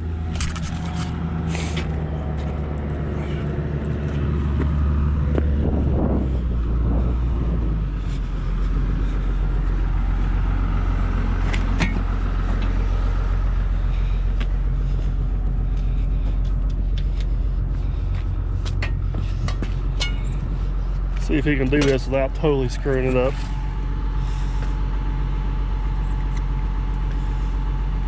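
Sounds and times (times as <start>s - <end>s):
skid steer engine running: 0.0s - 28.0s.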